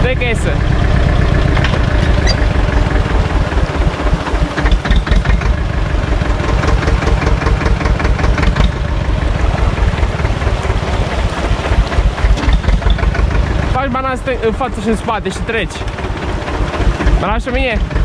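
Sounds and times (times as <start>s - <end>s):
tractor diesel engine putter: 0.0s - 18.0s.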